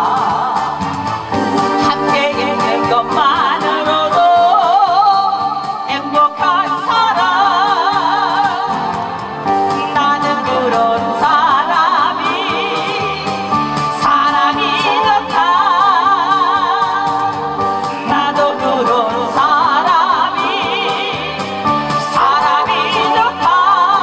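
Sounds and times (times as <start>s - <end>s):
instrumental accompaniment: 0.0s - 24.0s
woman singing into a microphone: 0.0s - 24.0s.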